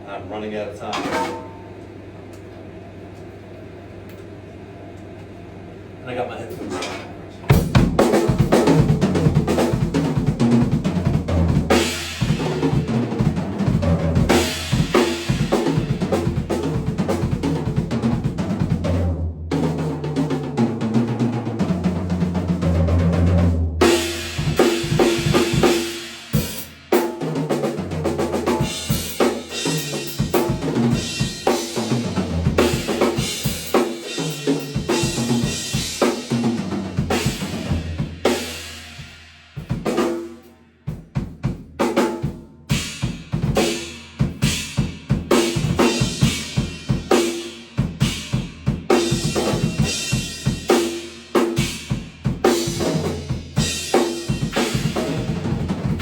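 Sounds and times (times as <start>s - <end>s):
drum kit playing: 7.5s - 56.0s.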